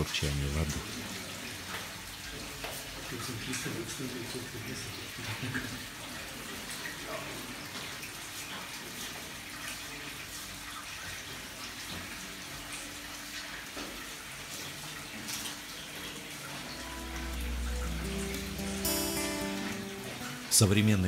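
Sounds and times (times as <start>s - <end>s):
water drips: 0.0s - 20.9s
water trickling: 0.0s - 21.0s.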